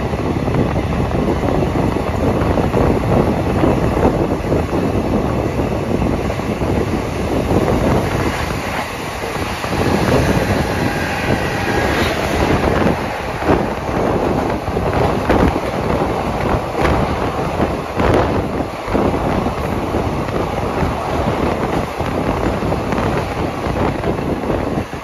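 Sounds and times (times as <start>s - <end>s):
train wheels rumbling on rail: 0.0s - 25.0s
wind buffeting microphone: 0.0s - 25.0s.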